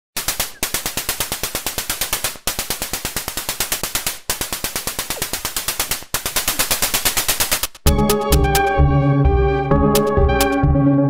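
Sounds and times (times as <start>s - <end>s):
rapid rattling clicks: 0.1s - 8.6s, 10.0s - 10.6s.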